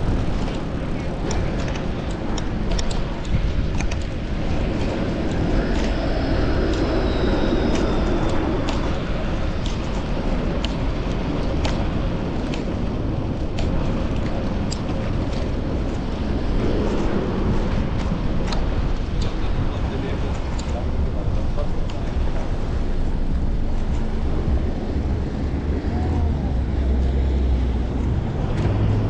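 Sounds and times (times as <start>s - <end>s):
road noise: 0.0s - 29.0s
rumbling wind: 0.0s - 29.0s
light ticking: 0.2s - 29.0s.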